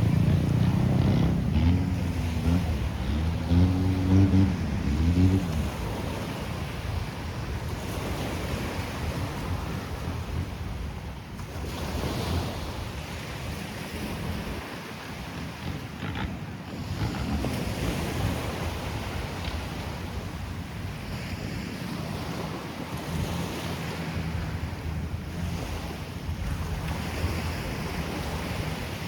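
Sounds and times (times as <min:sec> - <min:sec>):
small waves washing onto beach: 0:00.0 - 0:29.0
wind buffeting microphone: 0:00.0 - 0:29.0.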